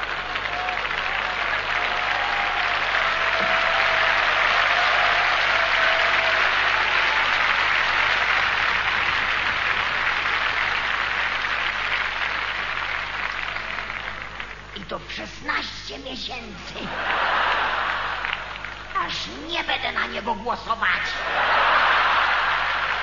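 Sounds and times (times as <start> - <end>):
audience applauding: 0.0 - 14.9, 16.8 - 19.2, 20.8 - 23.0.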